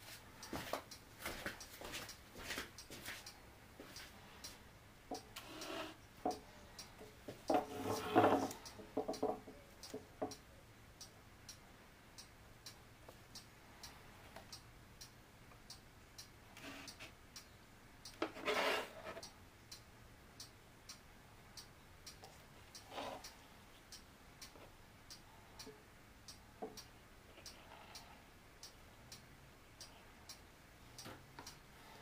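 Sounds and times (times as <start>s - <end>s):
steady ticking: 0.4s - 18.2s, 19.2s - 32.0s.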